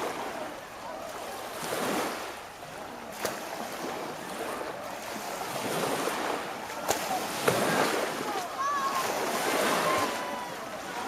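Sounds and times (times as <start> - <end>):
waves washing ashore: 0.0 - 11.0.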